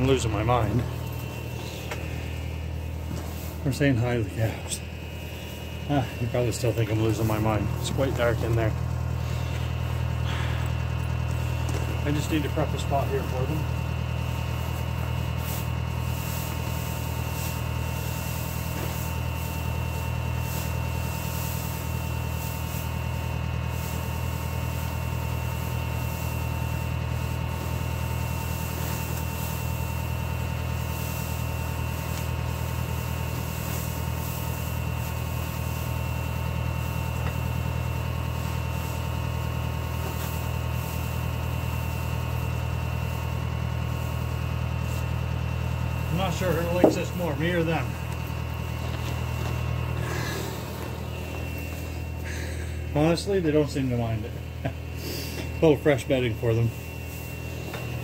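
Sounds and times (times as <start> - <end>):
low mechanical hum: 0.0 - 58.0
pitchfork rustling through straw: 0.1 - 10.2, 10.8 - 52.4.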